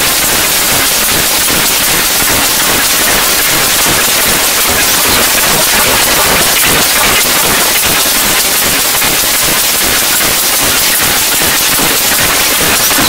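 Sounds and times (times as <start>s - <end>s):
crackling static hiss: 0.0s - 13.0s.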